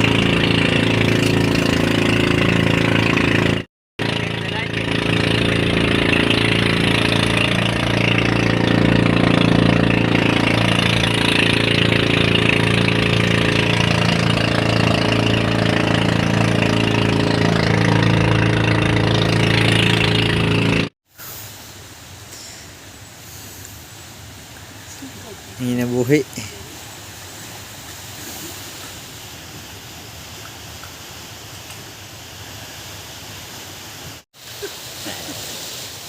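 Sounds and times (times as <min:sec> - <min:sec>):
engine humming steadily: 0:00.0 - 0:36.0
outdoor background noise: 0:00.0 - 0:36.0.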